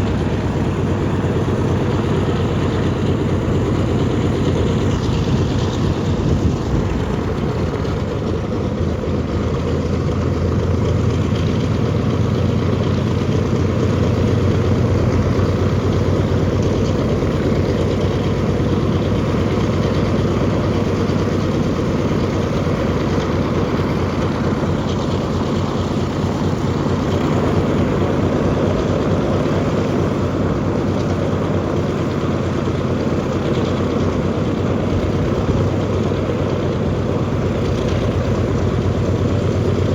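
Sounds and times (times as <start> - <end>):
propeller aircraft engines droning: 0.0 - 39.9.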